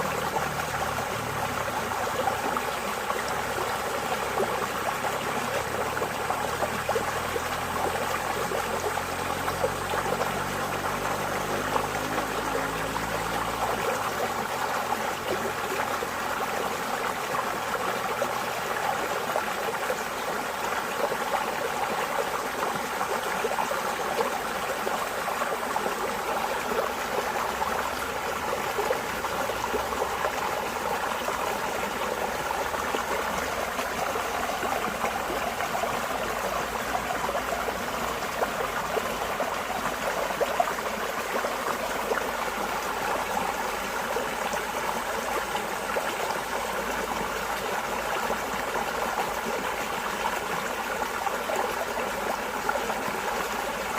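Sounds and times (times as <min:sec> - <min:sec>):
stream water burbling: 0:00.0 - 0:53.9.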